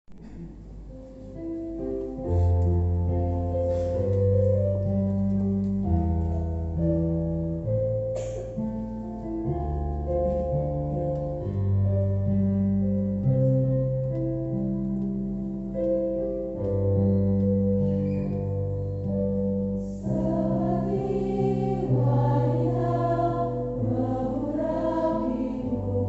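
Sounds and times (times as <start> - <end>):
keyboard playing slow chords: 0.1 - 26.0.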